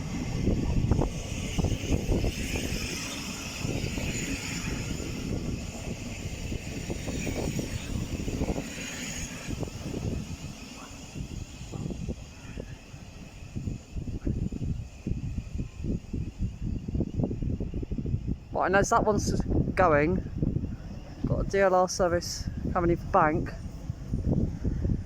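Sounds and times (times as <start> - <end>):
electric train whining: 0.0 - 25.0
wind buffeting microphone: 0.0 - 25.0.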